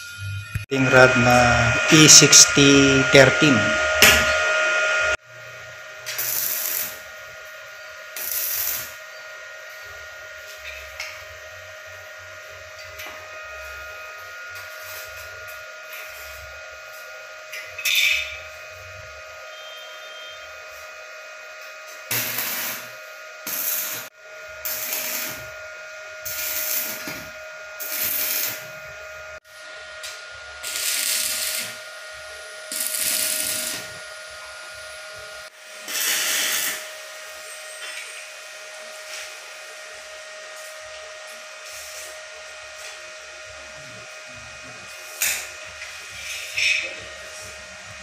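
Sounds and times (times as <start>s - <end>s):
steady hum: 0.0s - 17.8s, 18.4s - 48.0s
welding arc crackle: 2.6s - 20.9s, 21.6s - 38.4s, 40.6s - 43.6s, 44.9s - 47.9s.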